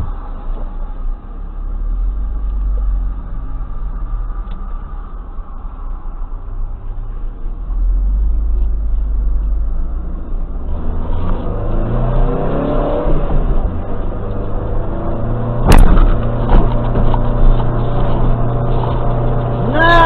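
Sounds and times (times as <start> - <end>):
car engine accelerating: 0.0 - 20.0
road rumble: 0.0 - 20.0.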